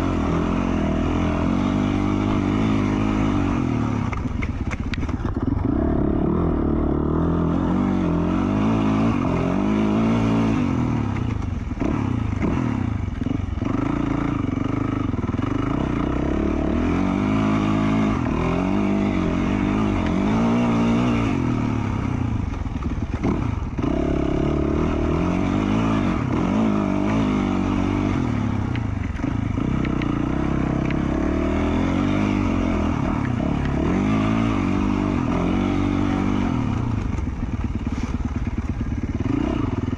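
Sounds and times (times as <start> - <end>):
dirt bike engine revving: 0.0 - 4.4, 5.1 - 39.9.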